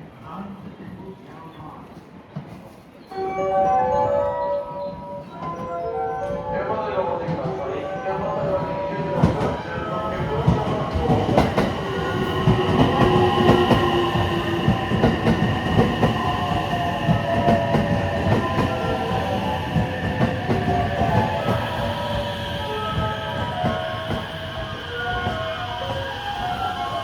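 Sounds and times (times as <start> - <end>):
train whine: 3.1 - 27.0.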